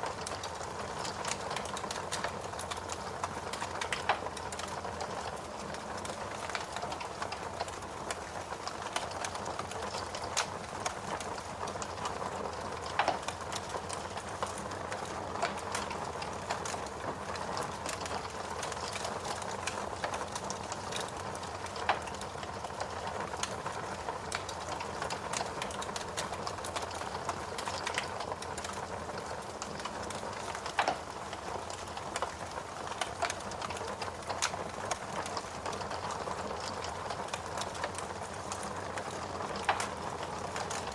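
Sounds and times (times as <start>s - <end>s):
steady rain: 0.0s - 40.9s
wood fire crackling: 0.0s - 40.9s.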